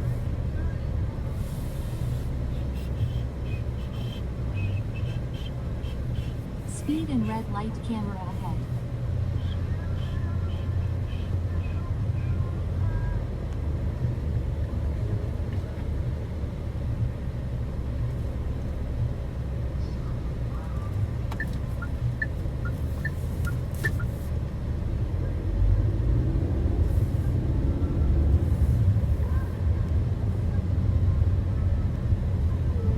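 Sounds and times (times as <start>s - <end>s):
car cabin rumble while driving: 0.0s - 32.9s.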